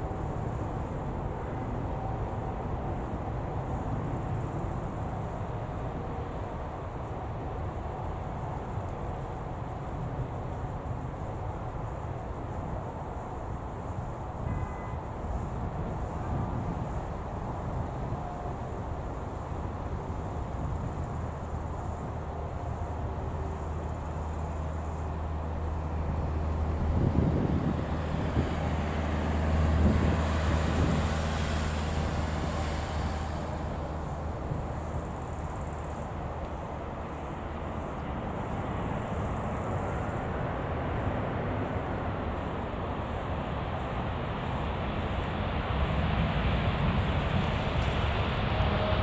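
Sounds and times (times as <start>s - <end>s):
jet engine rumble: 0.0s - 49.0s.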